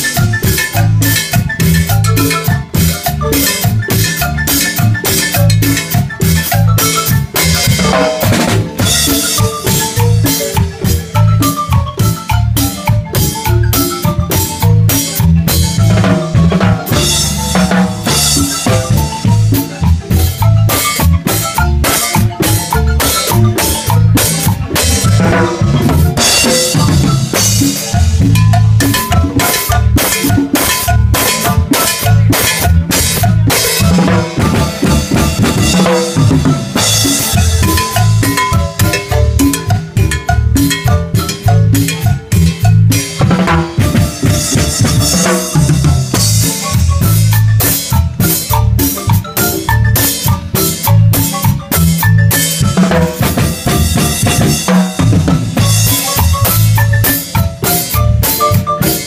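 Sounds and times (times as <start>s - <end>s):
bass line: 0.0s - 59.0s
drum kit with cymbals: 0.0s - 59.0s
marimba: 0.0s - 59.0s.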